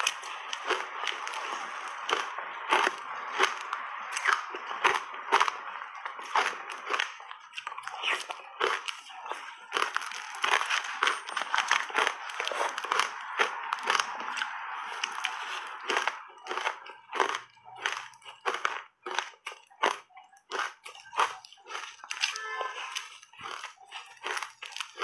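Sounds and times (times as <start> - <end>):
crunching shaved ice: 0.0 - 25.0.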